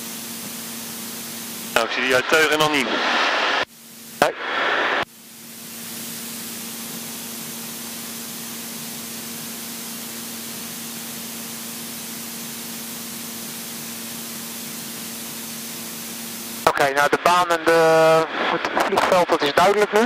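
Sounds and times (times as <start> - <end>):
aircraft engine and propeller drone: 0.0 - 4.3, 5.1 - 18.4.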